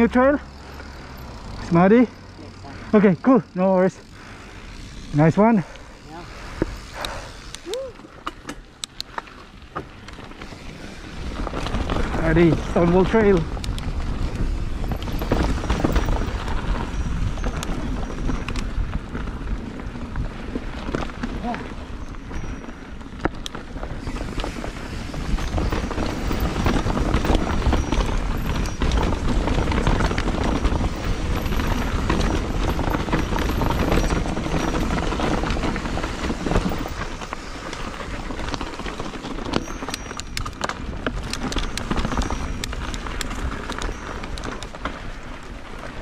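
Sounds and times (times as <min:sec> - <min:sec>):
bike rattling: 0:00.0 - 0:46.0
tyres rolling over dirt and rock: 0:09.2 - 0:46.0.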